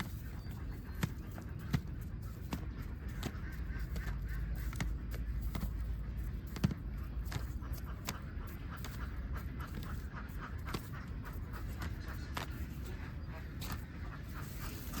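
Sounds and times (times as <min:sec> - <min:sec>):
ducks honking: 0:00.0 - 0:15.0.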